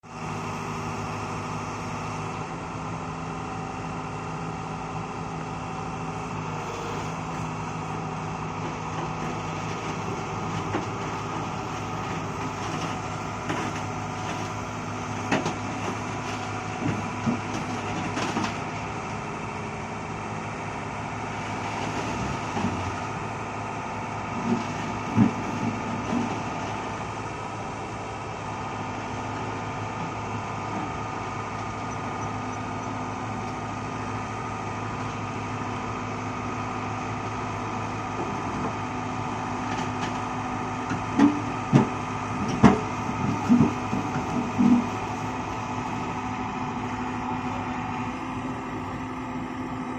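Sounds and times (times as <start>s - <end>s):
excavator diesel engines running: 0.0s - 49.9s.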